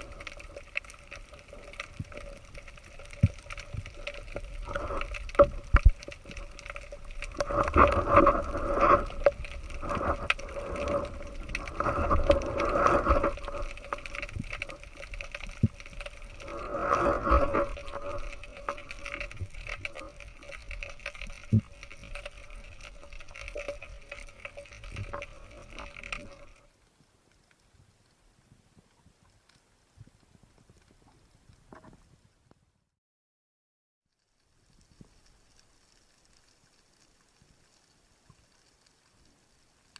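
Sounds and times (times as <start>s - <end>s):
crackling clicks: 0.0s - 28.2s, 28.8s - 32.6s, 34.1s - 39.9s
steady underwater hum: 0.0s - 32.5s, 34.1s - 39.9s.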